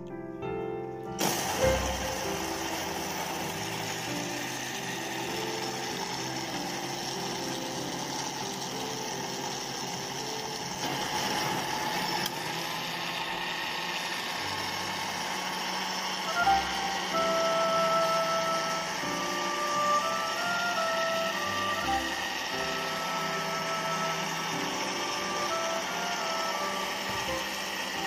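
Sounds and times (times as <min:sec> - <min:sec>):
blender motor running: 0:01.2 - 0:28.0.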